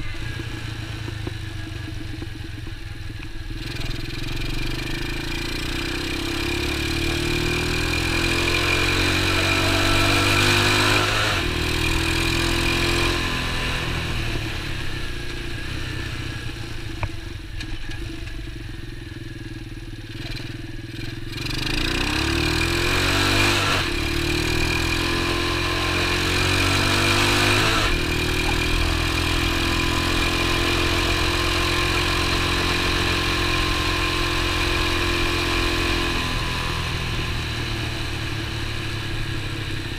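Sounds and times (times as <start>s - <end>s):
small motorbike engine revving: 3.5s - 17.0s, 20.0s - 39.9s.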